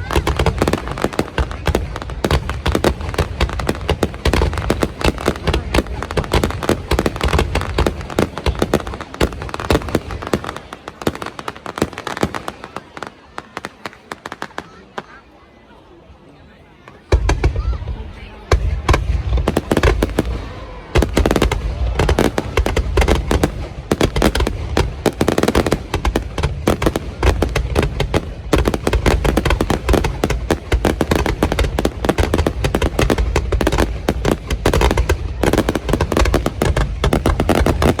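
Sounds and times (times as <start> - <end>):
fireworks bangs and crackles: 0.0 - 15.4, 16.8 - 38.0.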